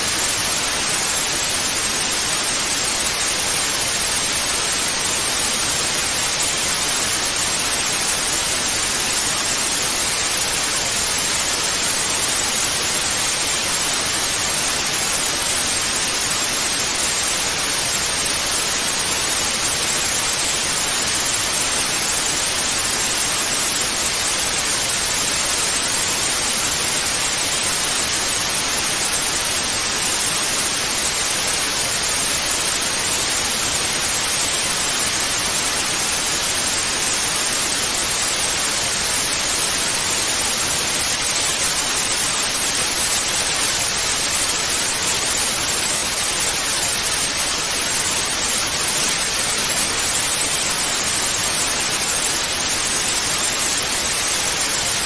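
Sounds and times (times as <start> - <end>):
television static hiss: 0.0 - 55.0.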